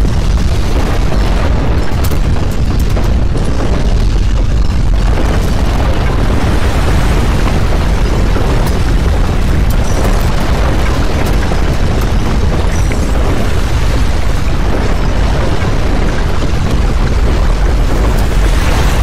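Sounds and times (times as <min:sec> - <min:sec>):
earthquake rumble and rush: 0:00.0 - 0:19.0.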